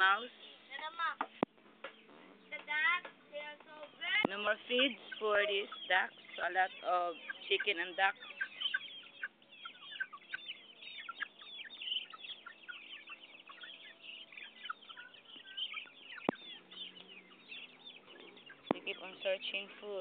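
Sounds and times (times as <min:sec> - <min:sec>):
chickens chirping and clucking: 0:00.0 - 0:20.0.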